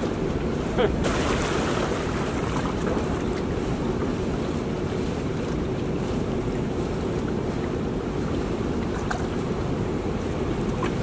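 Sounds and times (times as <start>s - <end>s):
churning river water rushing: 0.0s - 11.0s
wind rumble on microphone: 0.0s - 11.0s.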